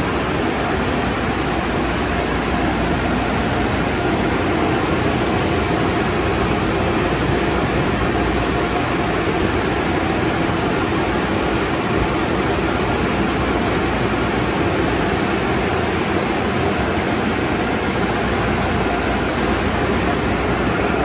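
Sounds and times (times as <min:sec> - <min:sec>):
dryer blowers rushing air: 0:00.0 - 0:21.0.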